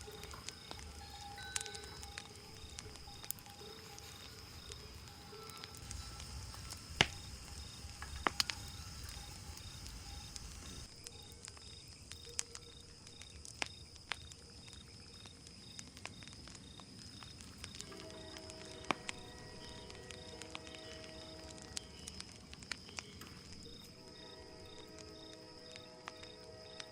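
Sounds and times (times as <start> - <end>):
insect chirring: 0.0 - 26.9
wood fire crackling: 0.0 - 26.9.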